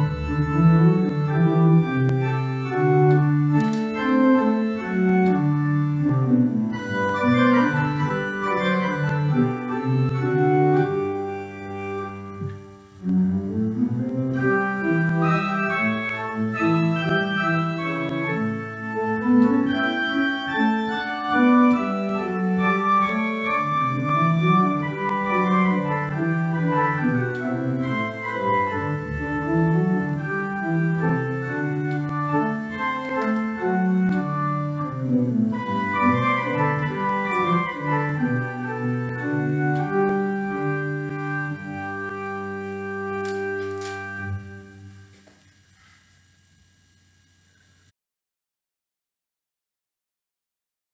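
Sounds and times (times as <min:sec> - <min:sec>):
organ music: 0:00.0 - 0:47.0.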